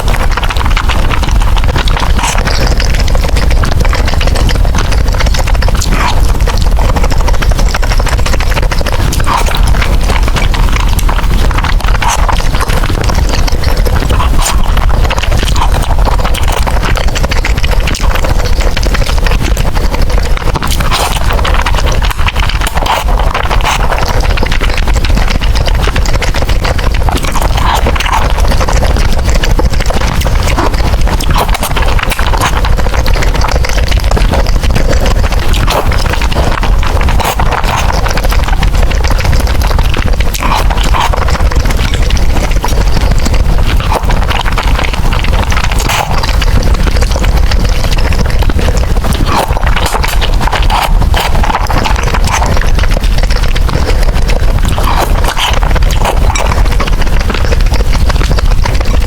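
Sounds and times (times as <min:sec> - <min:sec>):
chewing and slurping noodles: 0:00.0 - 0:59.0.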